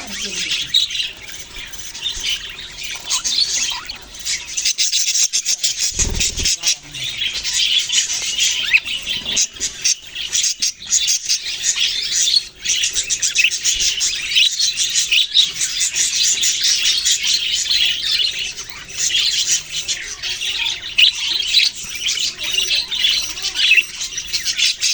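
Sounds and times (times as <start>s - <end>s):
budgerigars chirping and chattering: 0.0s - 24.9s.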